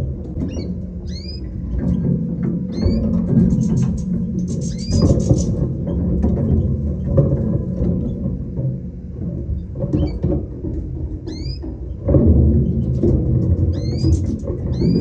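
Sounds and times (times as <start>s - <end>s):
cage birds chirping: 0.0s - 8.2s, 9.6s - 15.0s
continuous low rumble: 0.0s - 15.0s.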